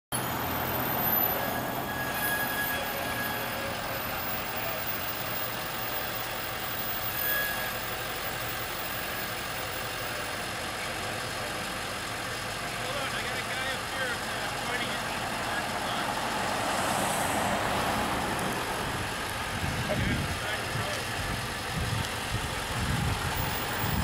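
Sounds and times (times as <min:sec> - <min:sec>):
diesel engine running: 0:00.1 - 0:24.0.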